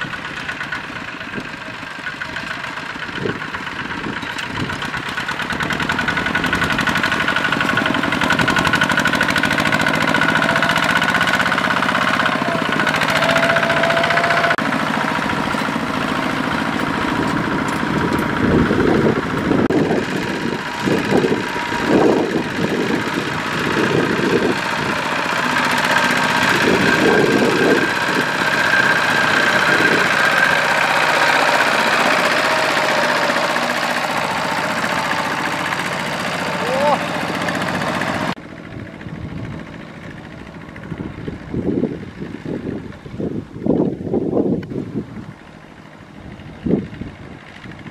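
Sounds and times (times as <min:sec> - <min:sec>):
diesel engine running steadily: 0:00.0 - 0:47.9.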